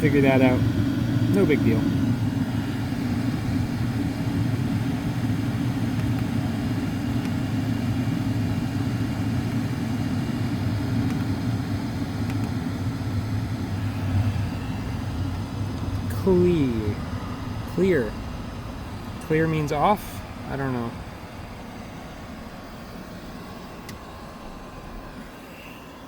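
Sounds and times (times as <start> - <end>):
diesel air heater drone: 0.0 - 26.0.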